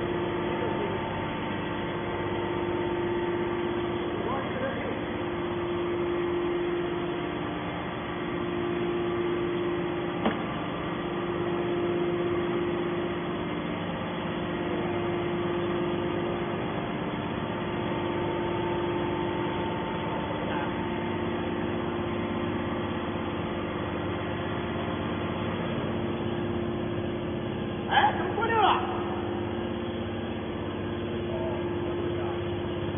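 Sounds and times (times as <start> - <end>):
hydraulic power unit humming: 0.0 - 32.9.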